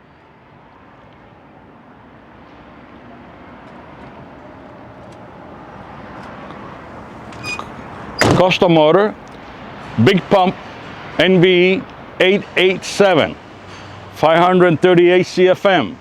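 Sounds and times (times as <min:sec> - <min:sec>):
steady vehicle noise: 0:00.0 - 0:16.0.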